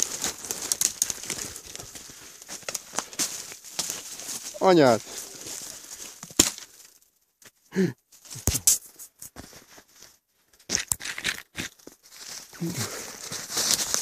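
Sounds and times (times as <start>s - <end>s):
footsteps crunching through snow: 0.0s - 6.9s, 8.1s - 14.0s.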